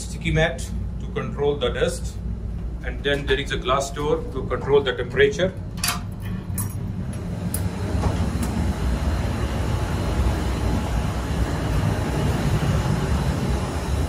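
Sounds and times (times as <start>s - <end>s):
server fans running: 0.0s - 14.0s.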